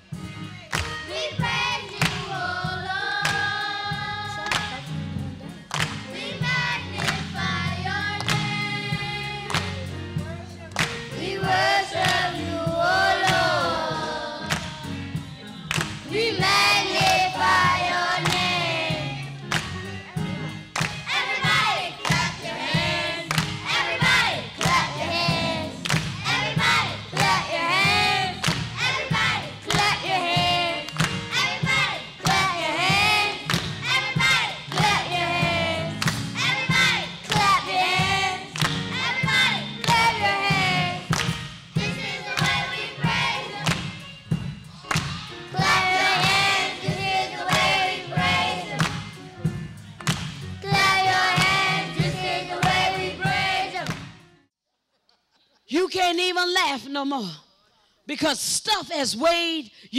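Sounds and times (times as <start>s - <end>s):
children's choir singing gospel: 0.0s - 54.2s
steady percussive beat: 0.0s - 54.4s.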